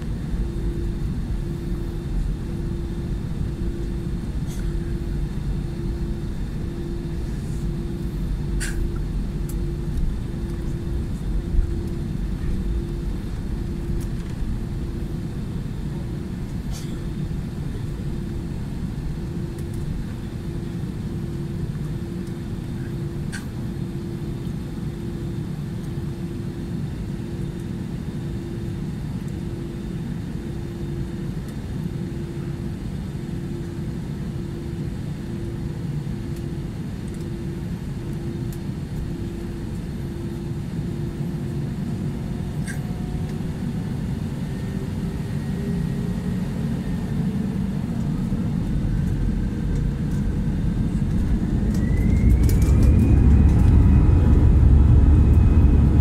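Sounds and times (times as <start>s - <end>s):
airplane cabin engine rumble: 0.0s - 56.0s
faint pulsing hum: 0.0s - 56.0s.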